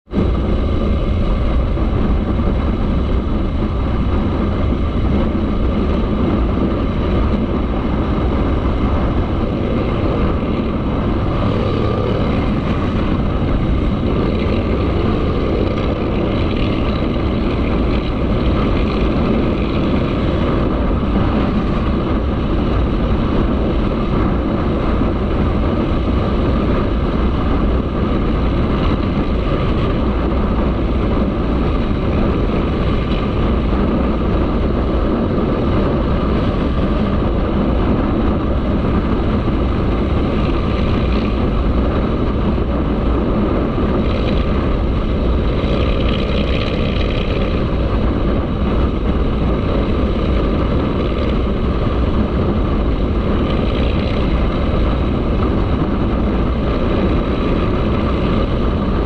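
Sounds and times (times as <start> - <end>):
motorcycle engine running: 0.1 - 59.0.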